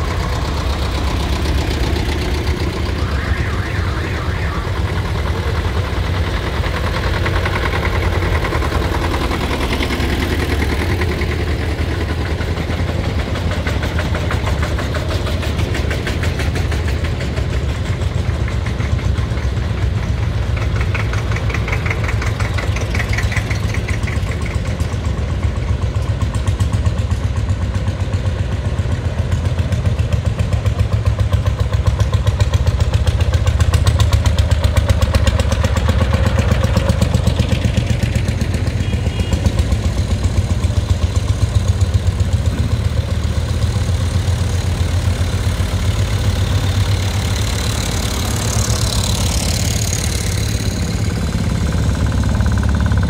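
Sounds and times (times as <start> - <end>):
tractor diesel engines chugging: 0.0 - 53.0.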